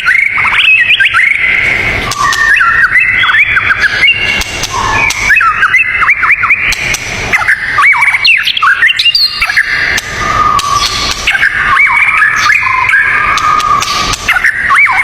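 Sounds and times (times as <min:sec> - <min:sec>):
songbirds singing: 0:00.0 - 0:15.0
steady background hiss: 0:00.0 - 0:15.0.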